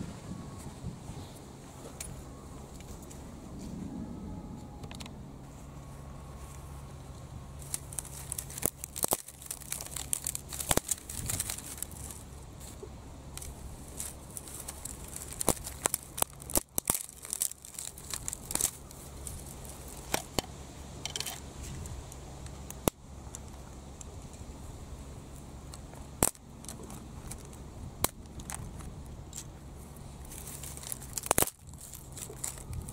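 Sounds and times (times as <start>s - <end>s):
dry twigs crackling and snapping: 1.7s - 3.8s, 4.6s - 32.9s.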